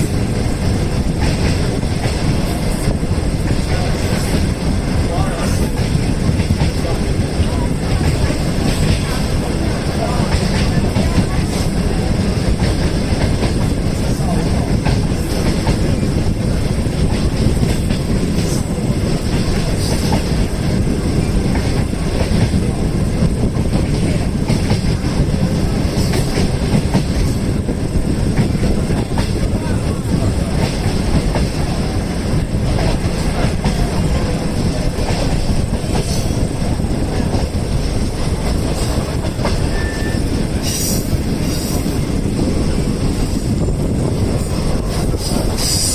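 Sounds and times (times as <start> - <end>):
rail joint clicks: 0.0 - 45.9
train wheels clattering on rails: 0.0 - 45.9.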